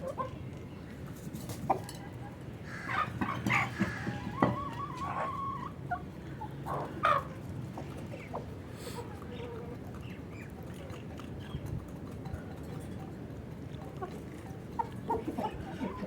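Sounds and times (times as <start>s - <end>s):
chickens clucking and calling: 0.0s - 11.9s, 13.9s - 16.0s.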